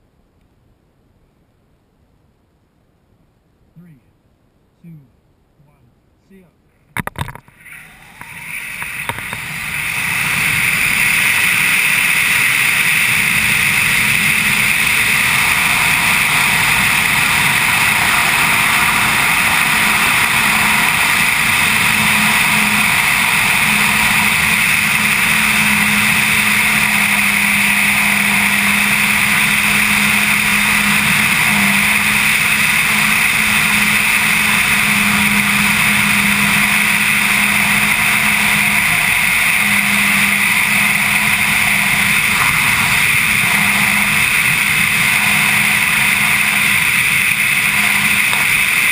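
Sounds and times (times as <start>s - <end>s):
wind rushing past camera: 7.1s - 48.9s.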